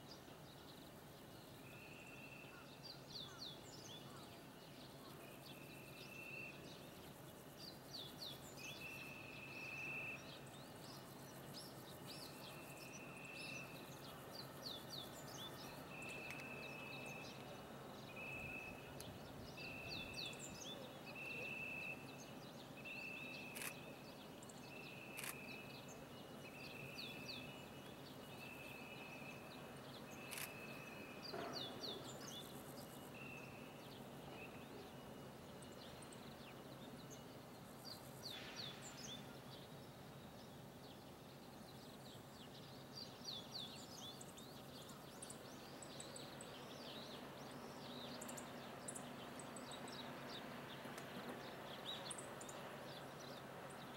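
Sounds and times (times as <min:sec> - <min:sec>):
faint background noise: 0:00.0 - 0:53.9
birds chirping: 0:01.8 - 0:53.9.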